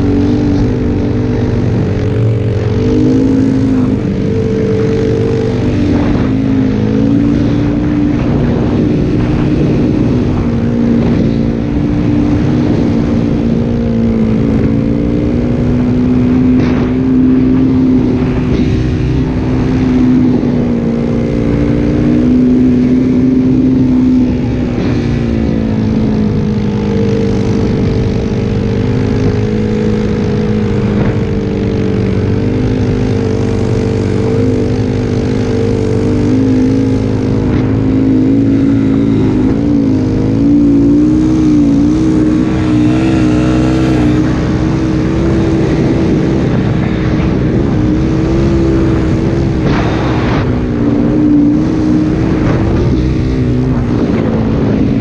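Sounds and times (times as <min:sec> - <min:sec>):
snowbike engine running: 0:00.0 - 0:55.0.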